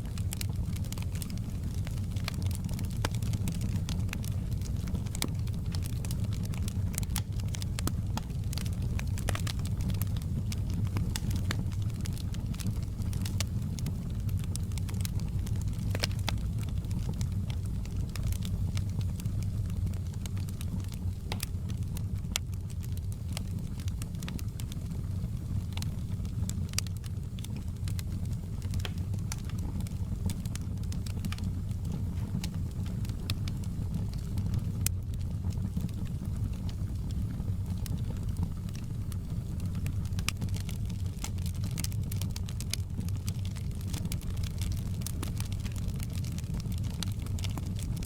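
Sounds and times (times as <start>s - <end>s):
wood fire crackling and popping: 0.0s - 48.0s.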